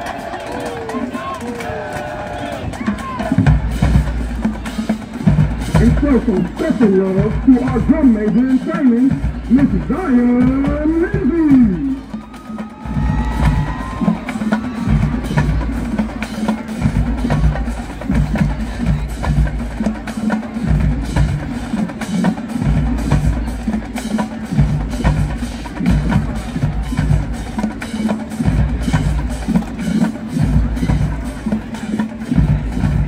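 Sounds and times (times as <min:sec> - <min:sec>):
snare and bass drums: 0:00.0 - 0:33.0.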